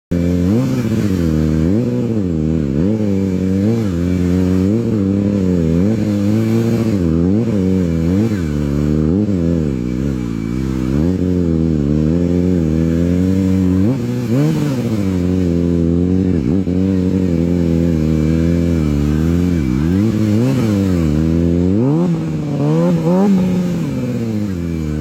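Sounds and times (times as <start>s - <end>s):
motorcycle engine revving: 0.1s - 25.0s.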